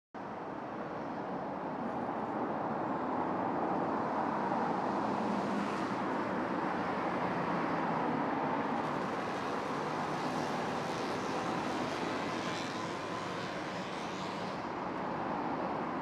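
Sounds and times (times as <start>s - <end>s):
road traffic rumble: 1.1s - 16.0s.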